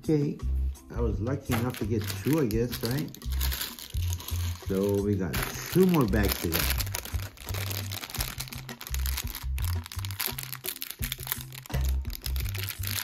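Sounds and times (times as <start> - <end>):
background music with bass: 0.0 - 13.0
foil packet crinkling: 1.5 - 13.0.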